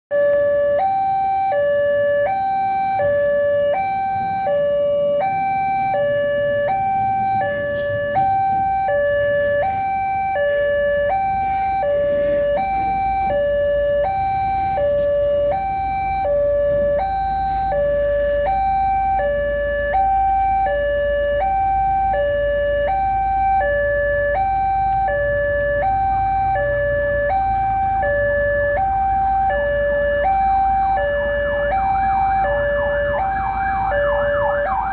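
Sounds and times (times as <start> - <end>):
level crossing two-tone alarm: 0.1 - 34.9.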